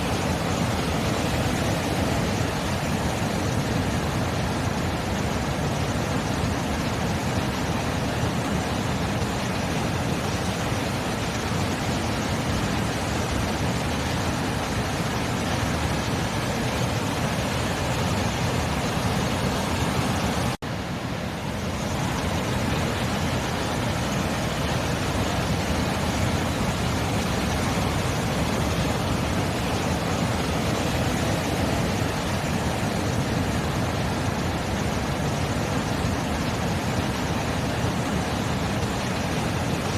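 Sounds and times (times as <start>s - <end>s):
sea surf roaring: 0.0s - 39.9s.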